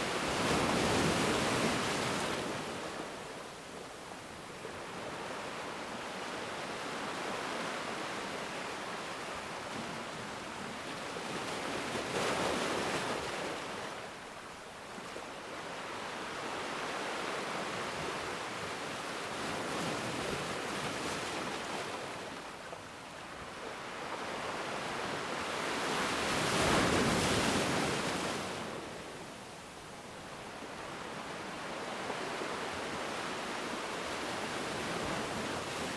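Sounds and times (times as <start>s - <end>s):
ocean waves washing onto shore: 0.0s - 35.9s.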